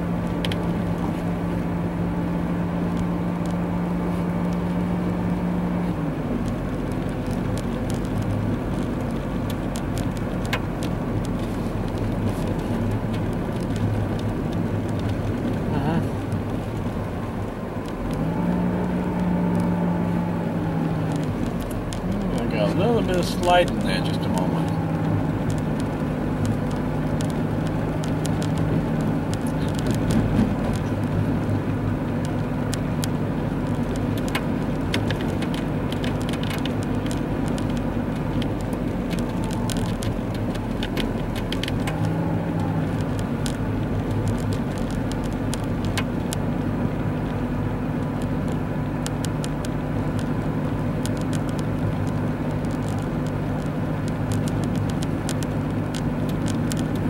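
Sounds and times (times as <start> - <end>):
car engine running: 0.0 - 57.0
light ticks: 0.2 - 1.6, 2.9 - 3.6, 6.4 - 18.3, 19.2 - 19.8, 21.0 - 46.6, 48.0 - 57.0
tyres rolling on snow: 3.0 - 57.0.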